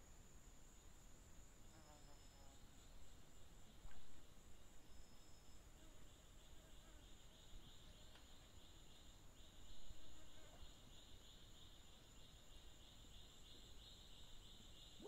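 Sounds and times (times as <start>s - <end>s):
insects trilling: 0.0s - 15.0s
pulsing insect trill: 0.3s - 15.0s.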